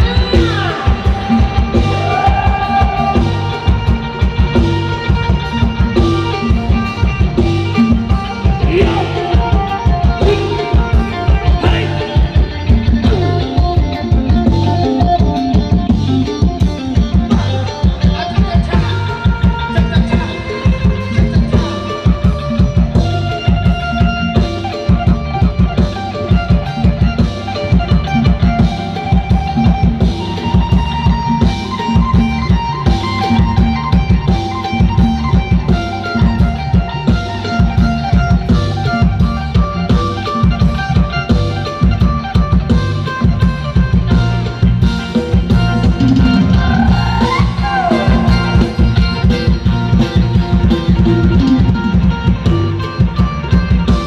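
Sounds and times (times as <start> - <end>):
instrumental music with drum beat: 0.0 - 54.0.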